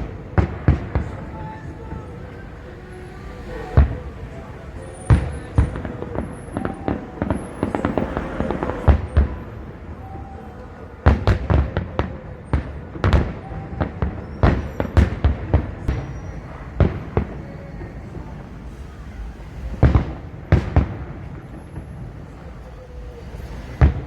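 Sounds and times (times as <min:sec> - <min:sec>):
faint crowd hum: 0:00.0 - 0:24.0.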